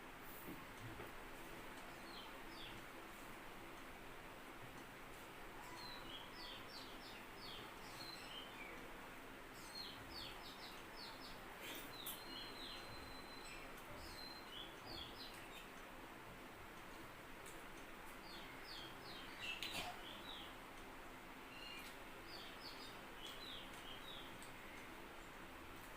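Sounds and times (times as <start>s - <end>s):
small birds chirping: 1.7s - 3.0s, 5.1s - 25.9s.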